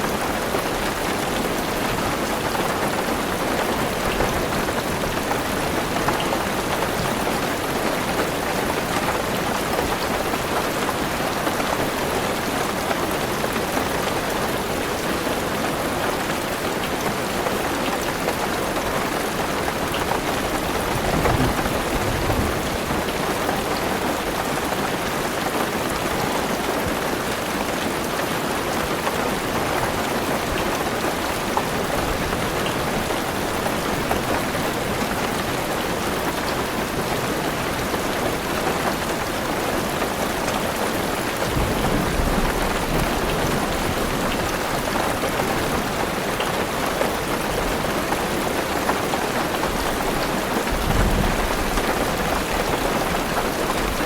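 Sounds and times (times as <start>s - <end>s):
rain pattering on a car roof: 0.0s - 54.0s.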